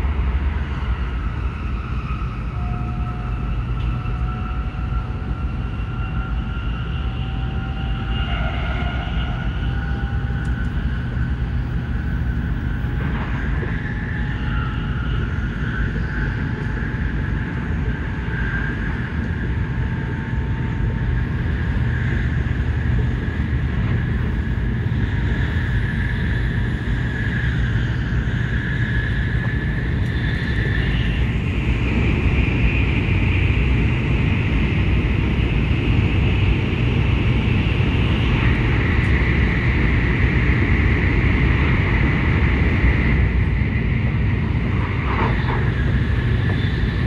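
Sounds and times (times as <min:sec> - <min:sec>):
rising whine: 0:00.0 - 0:47.0
train low rumble: 0:00.0 - 0:47.0.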